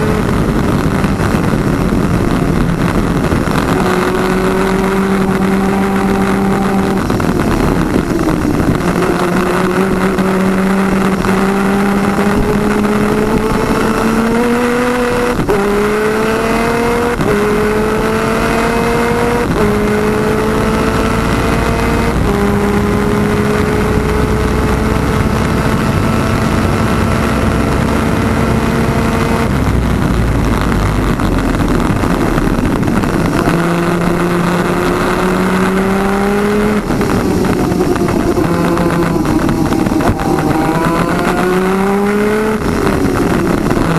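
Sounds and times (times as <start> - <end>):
kart engine at full throttle: 0.0 - 43.9.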